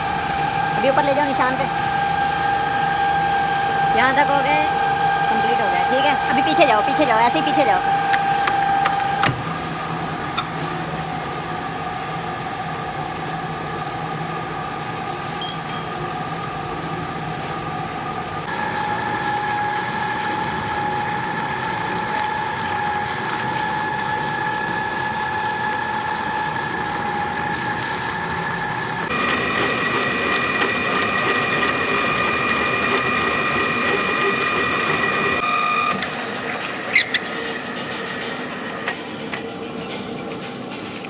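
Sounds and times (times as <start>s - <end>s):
lathe humming with high whine: 0.0s - 39.7s.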